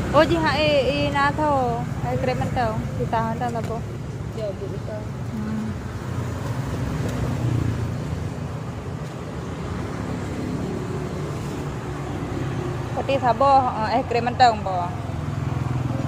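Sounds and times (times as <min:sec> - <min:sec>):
passing vehicle engine rumble: 0:00.0 - 0:16.0.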